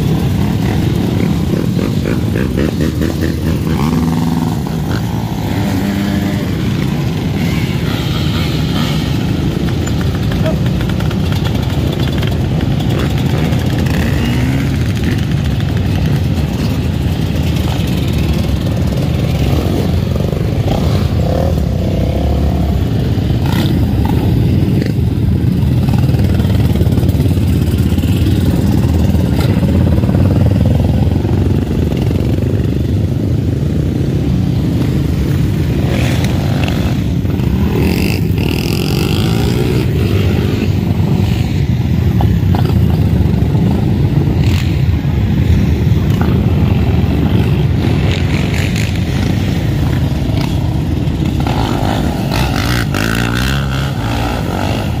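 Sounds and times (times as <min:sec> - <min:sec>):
motorbike engine revs: 0:00.0 - 0:32.6, 0:34.8 - 0:41.6, 0:42.3 - 0:55.0
dirt bike engines droning: 0:00.0 - 0:55.0.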